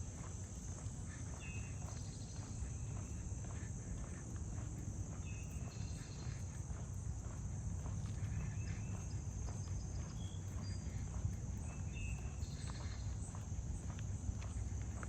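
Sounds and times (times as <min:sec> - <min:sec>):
crickets chirping: 0:00.0 - 0:15.0
footsteps walking: 0:00.1 - 0:15.0.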